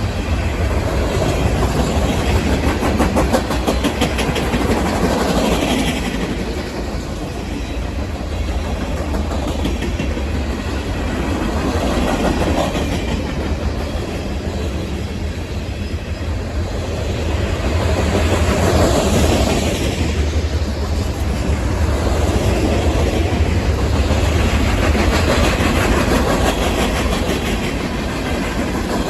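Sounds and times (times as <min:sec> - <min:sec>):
freight train wheels rumbling: 0:00.0 - 0:29.0
train clickety-clack: 0:00.0 - 0:29.0.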